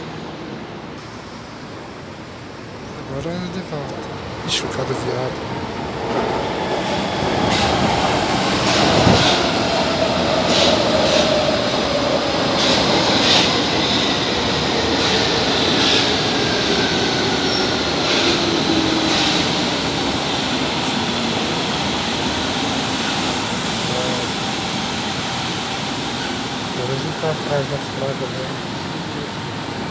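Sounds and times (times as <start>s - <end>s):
rumble of train cars: 0.0s - 29.9s.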